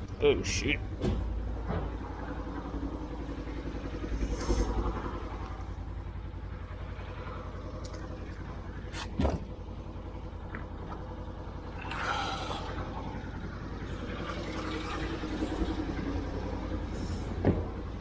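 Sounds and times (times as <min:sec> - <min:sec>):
engine running with low rumble: 0:00.0 - 0:18.0.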